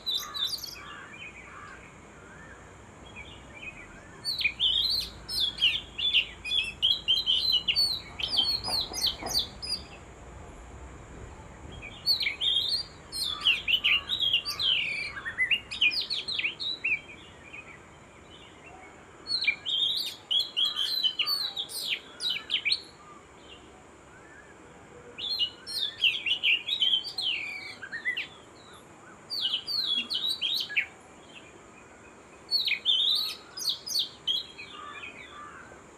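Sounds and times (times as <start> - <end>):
birds chirping: 0.0 - 10.2, 11.1 - 35.9.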